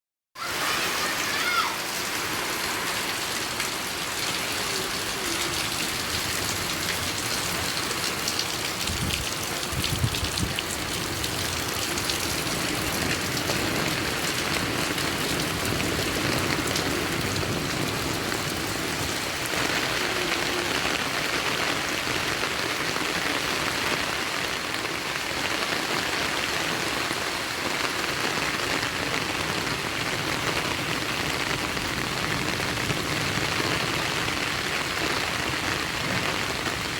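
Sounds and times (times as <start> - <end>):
heavy rain falling: 0.4 - 36.9.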